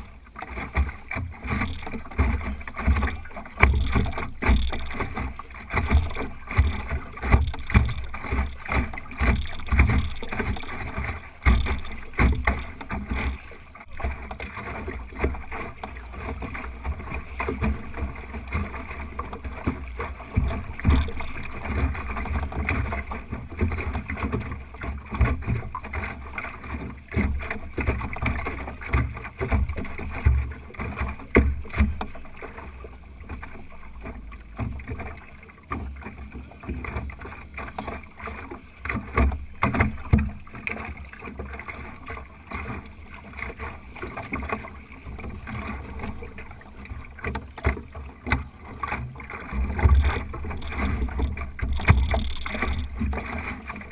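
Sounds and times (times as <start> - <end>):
water rushing along hull: 0.0 - 53.9
water slapping against hull: 0.0 - 53.9.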